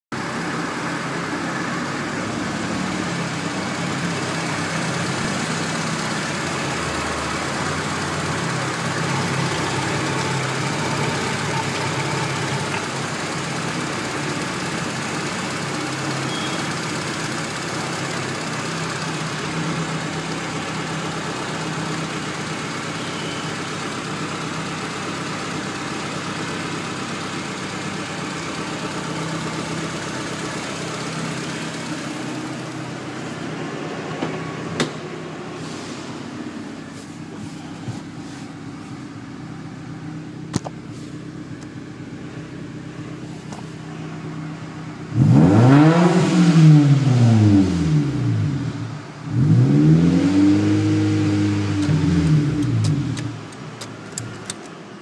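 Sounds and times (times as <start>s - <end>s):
car engine idling: 0.2s - 49.7s, 50.6s - 55.0s.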